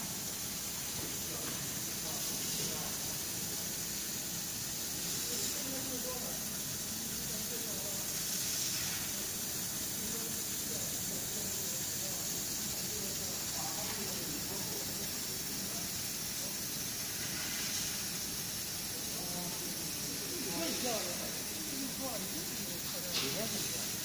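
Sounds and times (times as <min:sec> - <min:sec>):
hiss of assist gas from laser cutter: 0:00.0 - 0:24.0.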